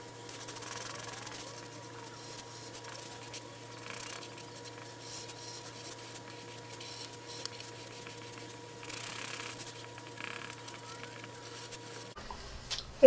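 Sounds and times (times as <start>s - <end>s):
steady low hum: 0.0s - 13.0s
marker scratching on paper: 0.3s - 12.2s.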